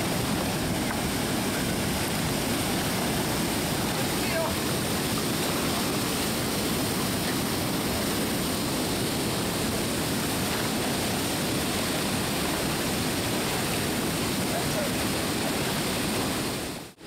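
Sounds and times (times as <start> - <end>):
water rushing through spillway: 0.0 - 17.0.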